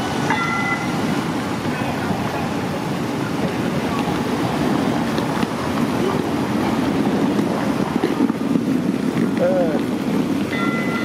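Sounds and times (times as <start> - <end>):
city street noise: 0.0 - 11.0
streetcar rumble: 0.0 - 11.0.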